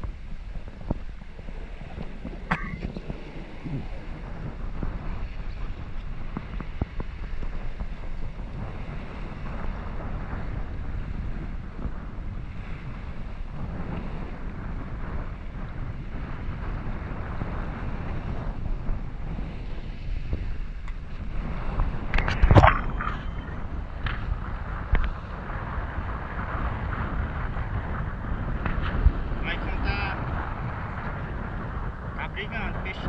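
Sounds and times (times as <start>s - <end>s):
sea water rushing around hull: 0.0s - 33.0s
wind buffeting microphone: 0.0s - 33.0s.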